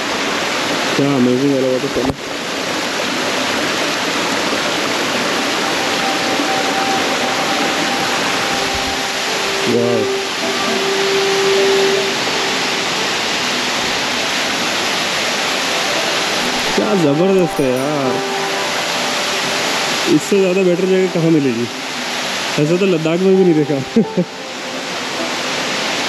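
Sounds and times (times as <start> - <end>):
waterfall rushing into pool: 0.0 - 26.0.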